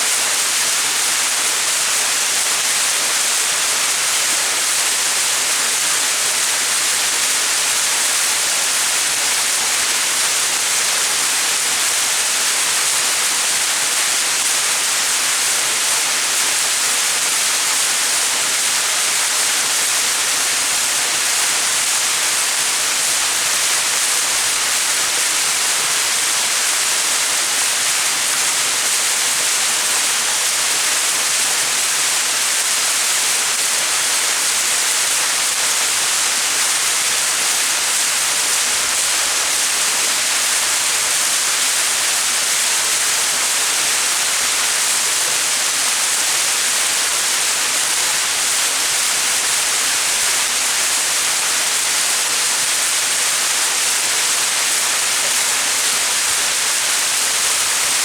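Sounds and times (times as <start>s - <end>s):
waterfall splashing into pool: 0.0s - 58.0s.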